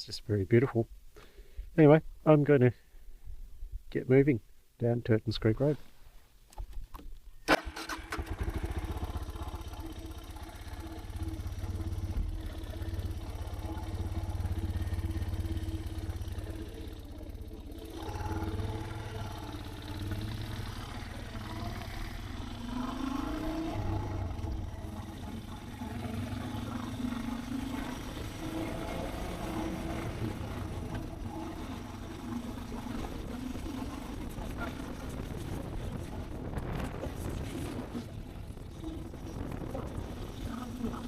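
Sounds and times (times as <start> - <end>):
motorcycle engine riding: 7.6 - 41.0.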